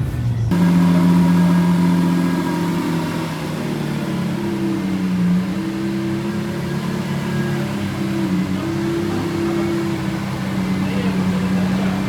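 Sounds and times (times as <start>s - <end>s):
car engine idling: 0.5s - 12.0s.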